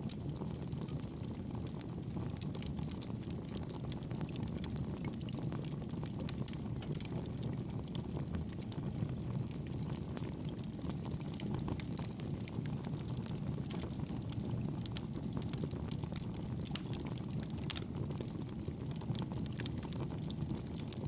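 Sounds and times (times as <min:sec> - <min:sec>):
fire crackling and popping: 0:00.0 - 0:21.0
fire rumbling in fireplace: 0:00.0 - 0:21.0.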